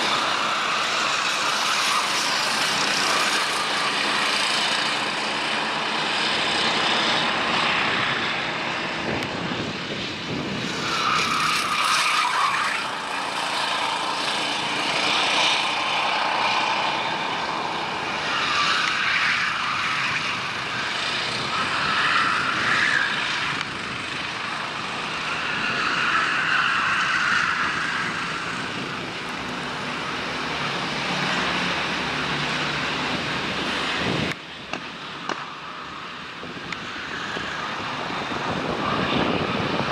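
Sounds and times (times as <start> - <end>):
go-kart engines buzzing: 0.0 - 39.9.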